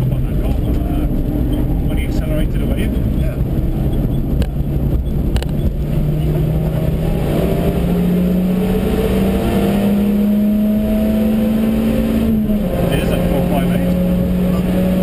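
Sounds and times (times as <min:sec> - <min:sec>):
car engine accelerating: 0:00.0 - 0:15.0
tyre and road noise: 0:00.0 - 0:15.0.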